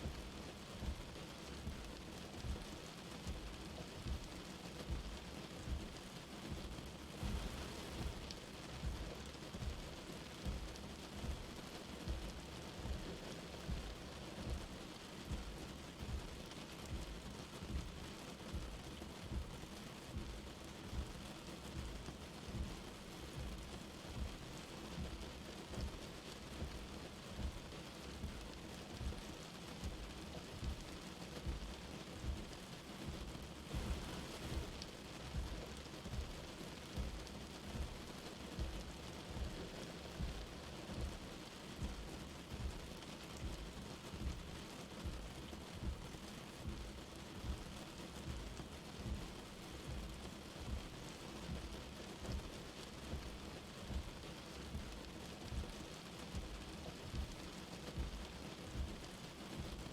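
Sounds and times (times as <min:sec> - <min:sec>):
light rain falling: 0:00.0 - 0:59.9
soft low thumps: 0:00.0 - 0:59.9.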